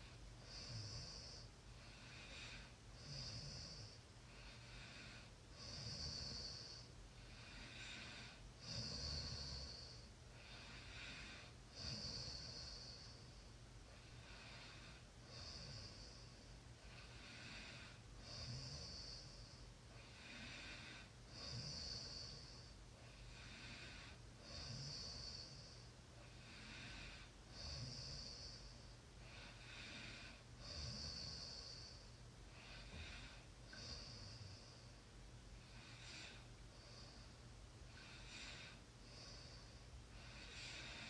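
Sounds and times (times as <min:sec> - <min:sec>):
person snoring faintly: 0:00.0 - 0:13.4, 0:14.0 - 0:34.9.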